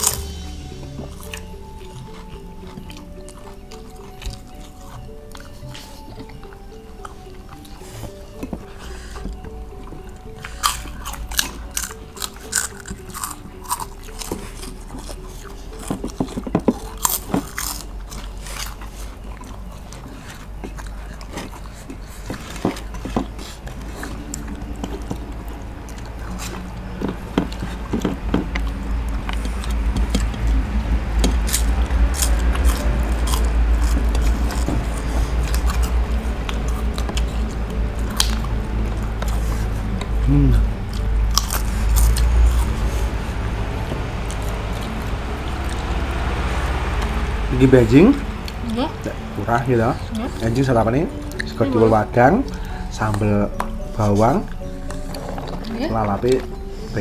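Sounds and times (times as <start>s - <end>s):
people chewing and crunching: 0.0s - 57.0s
quiet background music: 0.0s - 57.0s.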